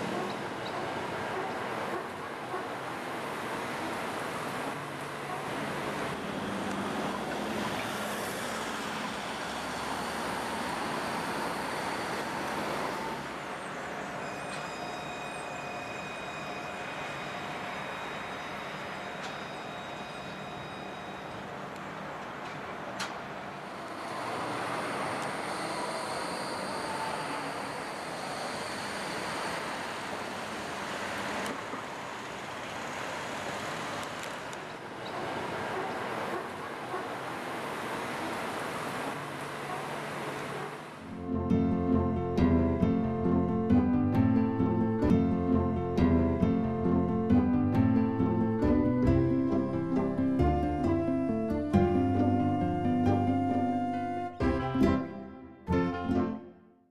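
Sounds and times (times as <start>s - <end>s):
tram wheel and traffic noise: 0.0s - 56.6s.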